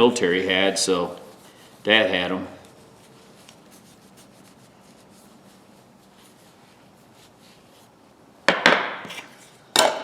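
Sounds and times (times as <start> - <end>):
light rubbing and handling: 0.0 - 8.3
low room hiss: 0.0 - 10.0.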